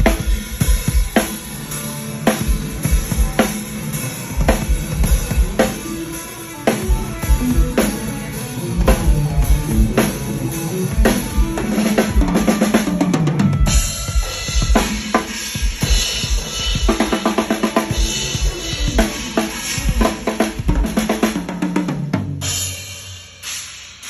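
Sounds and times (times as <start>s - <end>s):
bass drum and snare groove: 0.0s - 6.0s, 6.7s - 22.7s.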